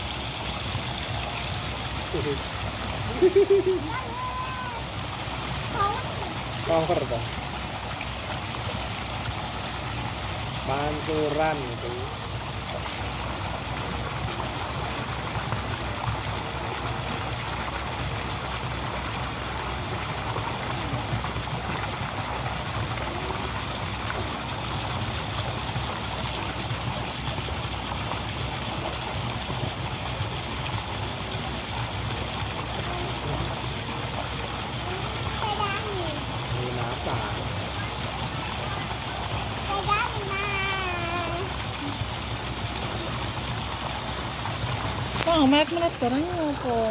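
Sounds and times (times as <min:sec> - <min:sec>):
water jets splashing into pool: 0:00.0 - 0:46.9.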